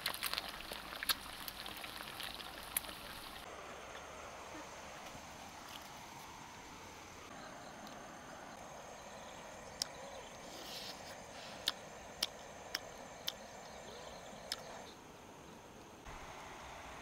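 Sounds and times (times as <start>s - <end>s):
insect drone: 0.4s - 17.0s.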